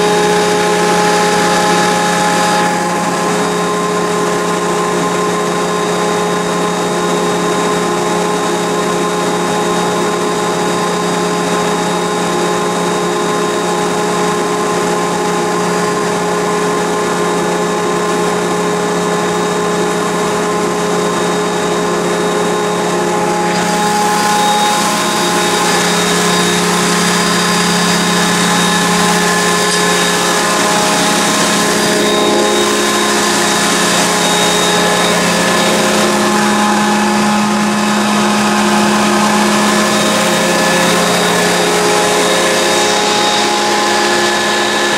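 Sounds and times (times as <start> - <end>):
air compressor humming: 0.0 - 44.9.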